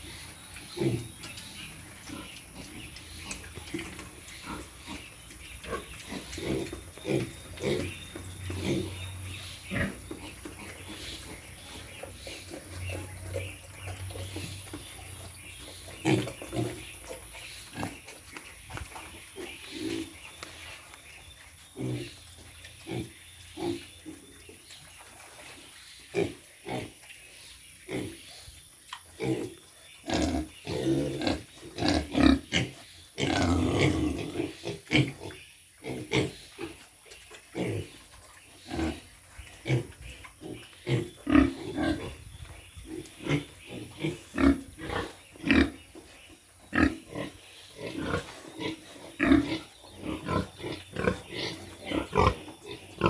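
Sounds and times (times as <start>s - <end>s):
pigs grunting: 0.0s - 18.2s, 21.7s - 22.2s, 26.1s - 27.1s, 29.2s - 53.0s.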